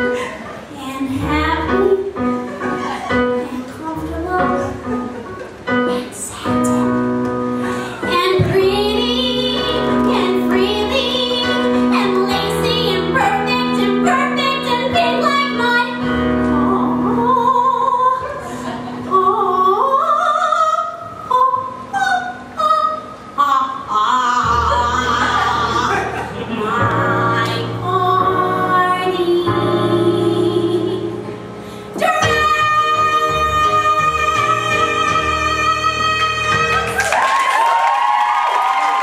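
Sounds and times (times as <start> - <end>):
keyboard piano accompaniment: 0.0 - 39.0
woman singing: 0.7 - 5.0, 7.9 - 18.4, 19.1 - 31.3, 32.0 - 37.0.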